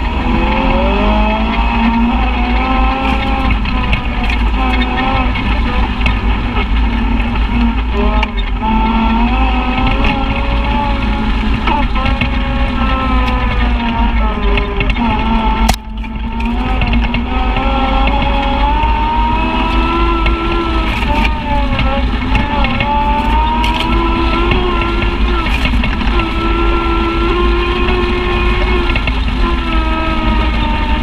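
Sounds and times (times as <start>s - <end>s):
utility vehicle engine running: 0.0s - 31.0s.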